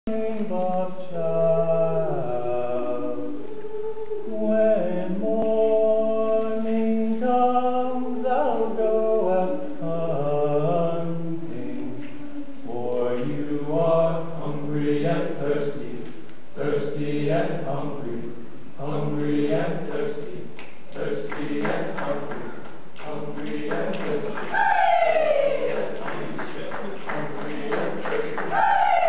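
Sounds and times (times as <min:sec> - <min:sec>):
choir singing sustained chords: 0:00.8 - 0:29.0.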